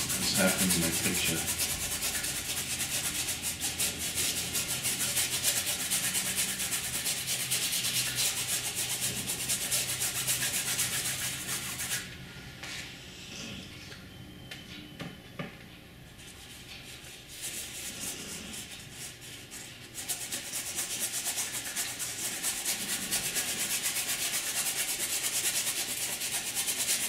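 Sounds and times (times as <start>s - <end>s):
paintbrush scrubbing canvas: 0.0s - 12.1s, 16.2s - 27.0s.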